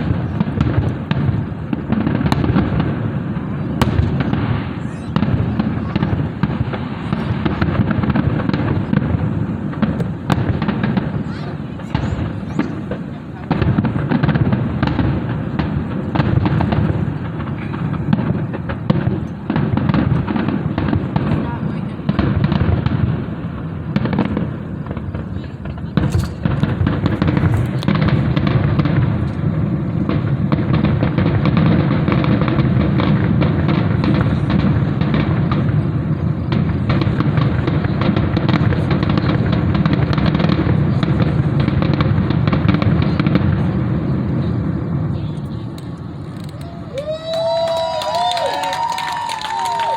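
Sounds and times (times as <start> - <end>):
fireworks cracks and booms: 0.0 - 49.9.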